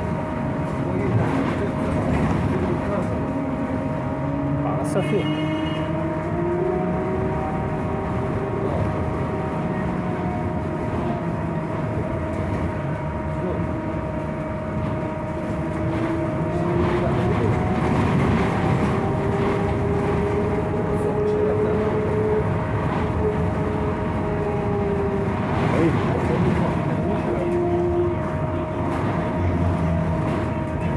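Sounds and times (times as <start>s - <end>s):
heavy rattle and road noise: 0.0s - 30.9s.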